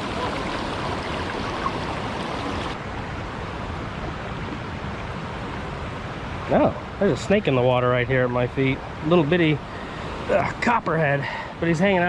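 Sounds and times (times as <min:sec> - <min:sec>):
water rushing over spillway: 0:00.0 - 0:12.0.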